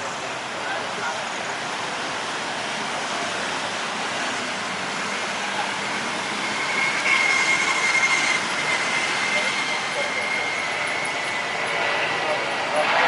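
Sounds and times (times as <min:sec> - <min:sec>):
high jet engine whine: 0:00.0 - 0:13.0
jet engine rush: 0:00.0 - 0:13.0.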